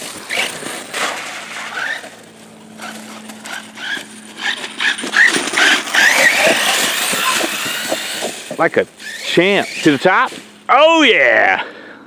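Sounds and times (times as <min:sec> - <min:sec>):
electric motor whining: 0:00.0 - 0:10.7.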